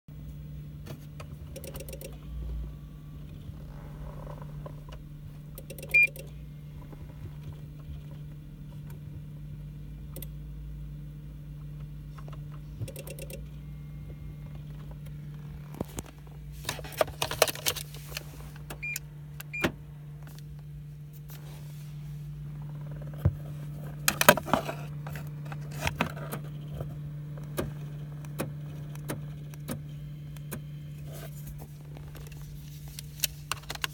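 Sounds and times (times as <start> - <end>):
steady electrical hum: 0.1 - 33.9.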